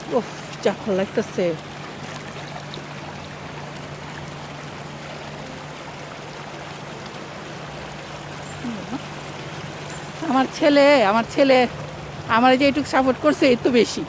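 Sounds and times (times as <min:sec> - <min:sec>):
low steady hum: 0:00.0 - 0:14.0
water running through stone feature: 0:00.0 - 0:14.0.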